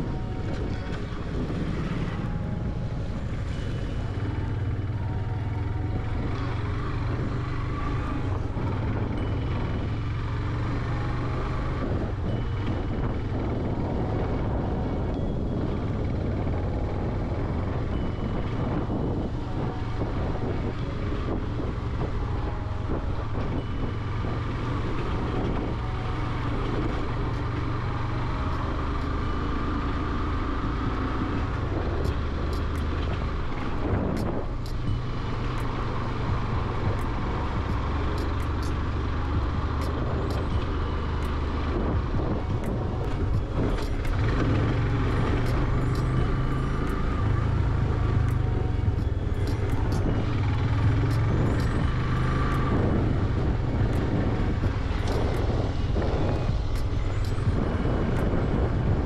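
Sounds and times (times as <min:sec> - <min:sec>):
motorcycle engine rumble: 0:00.0 - 0:59.0
road and wind noise: 0:00.0 - 0:59.0.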